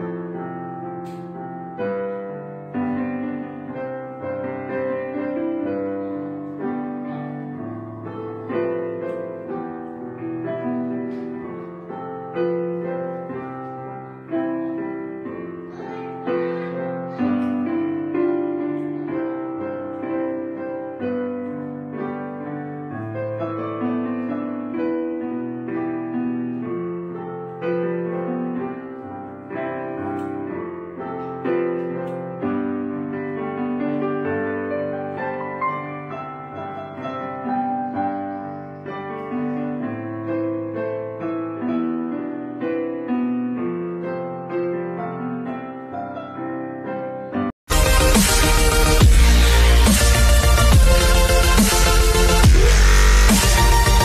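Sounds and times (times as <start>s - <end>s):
slow gentle piano music: 0.0s - 47.8s.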